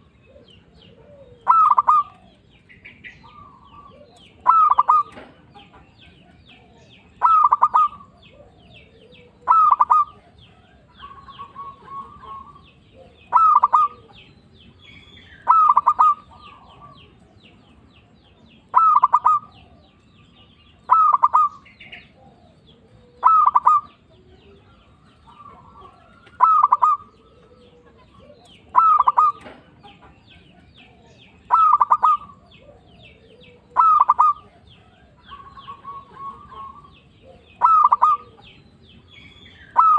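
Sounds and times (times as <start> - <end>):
dove cooing: 0.0 - 17.7, 18.6 - 39.9.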